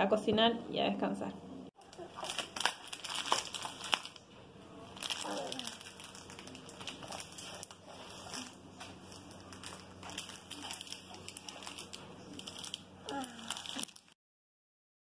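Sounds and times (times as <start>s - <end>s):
plastic packaging crinkling: 1.8s - 14.2s.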